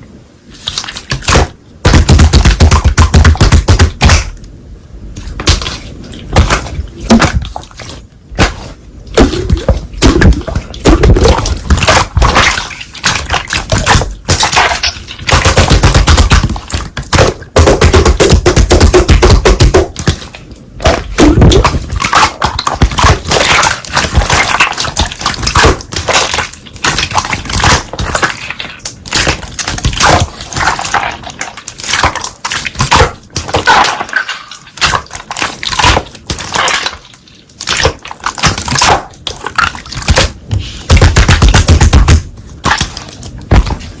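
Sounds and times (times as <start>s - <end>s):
slime crackling and popping: 8.4s - 43.6s.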